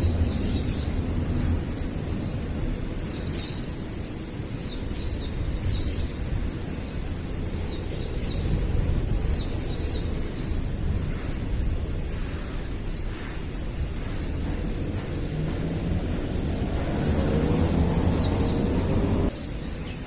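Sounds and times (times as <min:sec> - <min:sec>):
small bird chirping: 0:00.0 - 0:11.7, 0:12.3 - 0:20.0
wind buffeting microphone: 0:00.0 - 0:19.9.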